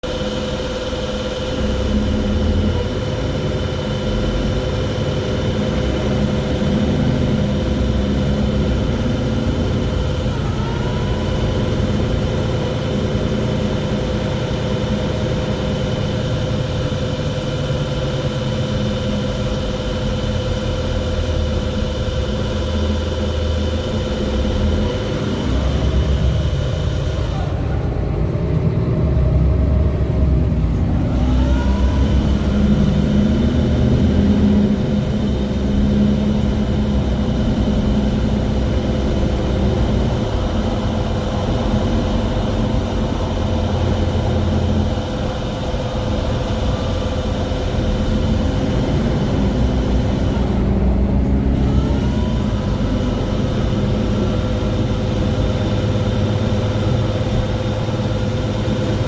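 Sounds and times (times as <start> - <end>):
bus engine rumbling: 0.0 - 59.0
short rising whine: 0.1 - 59.0.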